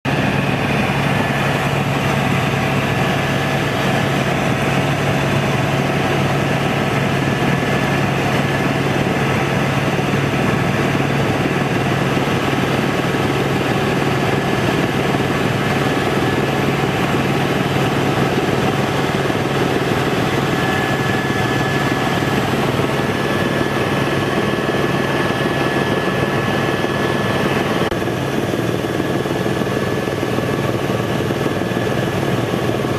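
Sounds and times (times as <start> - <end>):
helicopter turbine and rotor noise: 0.0 - 32.9.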